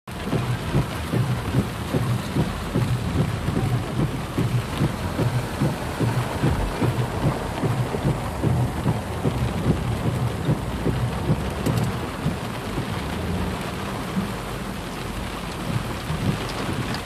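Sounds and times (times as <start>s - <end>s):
heavy rain falling: 0.1s - 17.0s.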